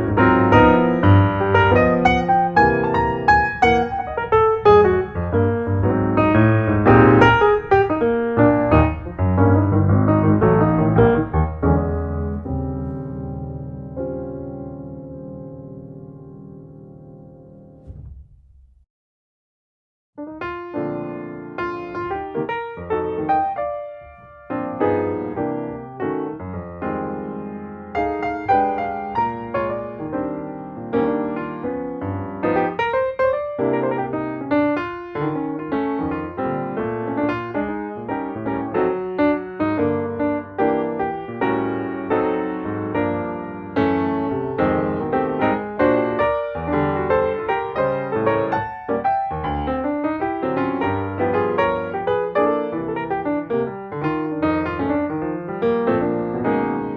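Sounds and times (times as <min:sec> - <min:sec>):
gentle piano chords: 0:00.0 - 0:18.5, 0:20.2 - 0:56.9.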